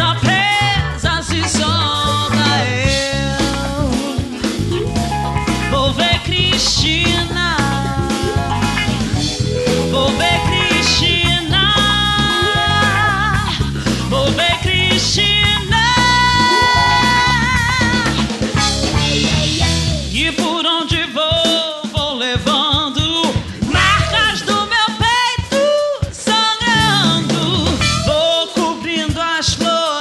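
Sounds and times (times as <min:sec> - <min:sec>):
person singing: 0:00.0 - 0:18.4, 0:19.1 - 0:30.0
bass: 0:00.0 - 0:21.5, 0:22.7 - 0:29.6
band music: 0:00.0 - 0:29.9.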